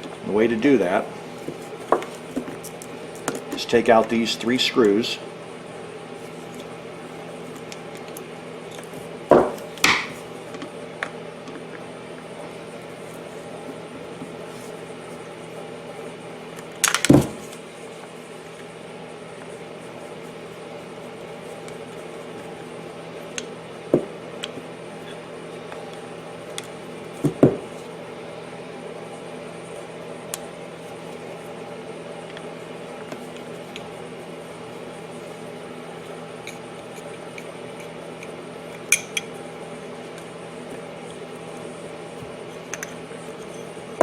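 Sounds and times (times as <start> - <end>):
steady background hum: 0.0 - 44.0.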